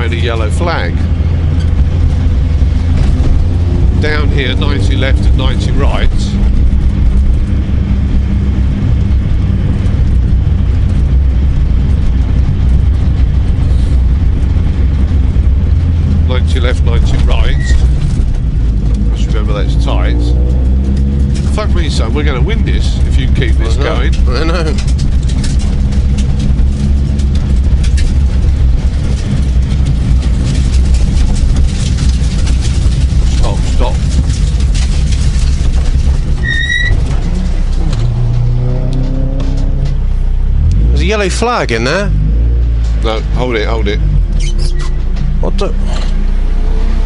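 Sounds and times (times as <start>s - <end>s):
car engine running: 0.0s - 47.0s
road noise: 0.0s - 47.0s.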